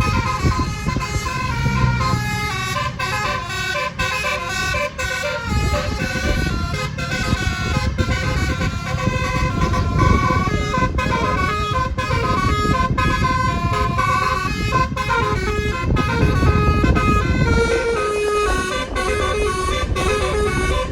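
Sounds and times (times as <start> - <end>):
low rumble: 0.0 - 20.9
multi-tone bus horn melody: 0.0 - 20.9.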